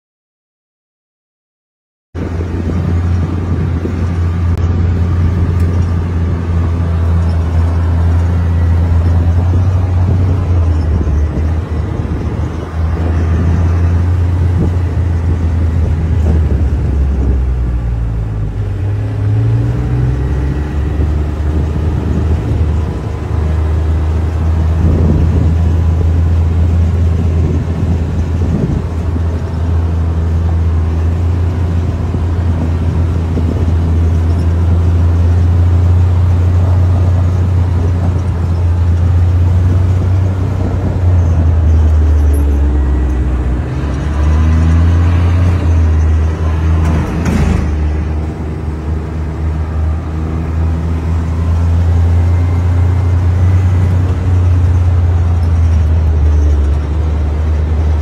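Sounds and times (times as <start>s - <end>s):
off-road vehicle engine running: 2.2s - 58.0s.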